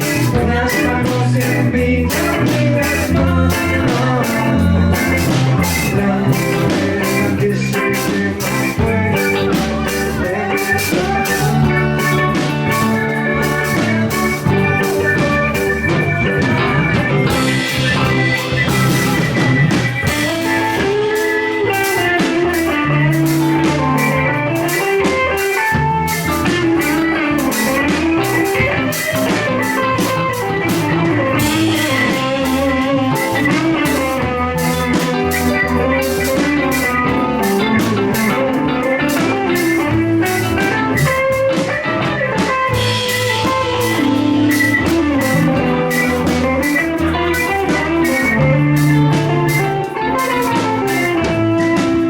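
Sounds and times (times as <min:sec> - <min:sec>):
bass guitar: 0:00.0 - 0:52.0
drum kit beat: 0:00.0 - 0:52.0
guitar melody: 0:00.0 - 0:52.0.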